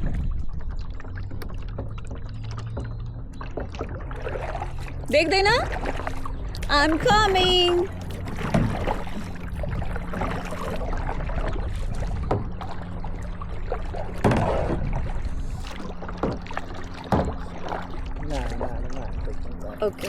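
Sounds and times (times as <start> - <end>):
paddle splashing in water: 0.0 - 19.2
steady low hum: 0.0 - 20.0.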